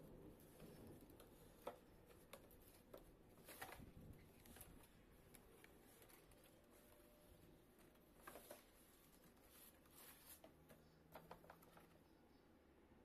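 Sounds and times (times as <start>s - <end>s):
cardboard scraping and clicking: 0.4s - 7.0s, 7.8s - 12.0s.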